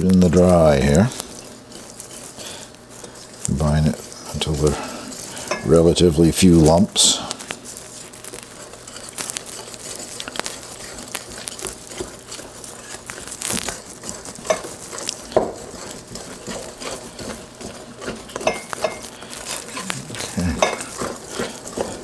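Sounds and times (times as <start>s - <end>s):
whisk scraping and clicking in bowl: 0.0s - 22.0s.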